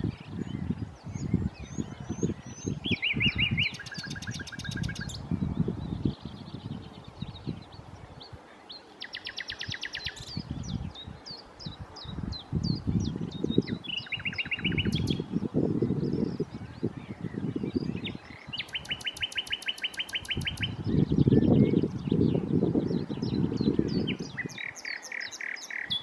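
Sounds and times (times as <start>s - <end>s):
nightingale singing: 0.0s - 26.0s.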